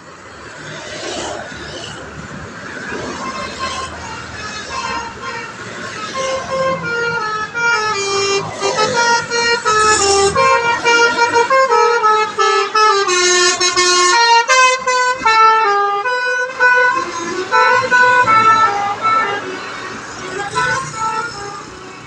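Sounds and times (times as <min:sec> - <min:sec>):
multi-tone air horn melody: 0:03.2 - 0:22.0.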